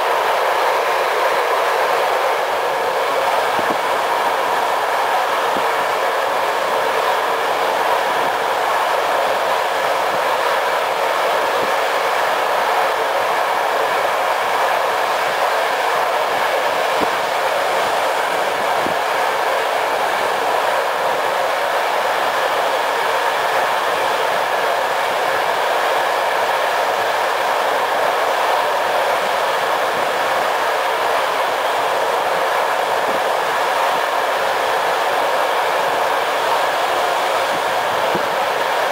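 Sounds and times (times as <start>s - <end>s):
train coach rolling noise: 0.0s - 38.9s.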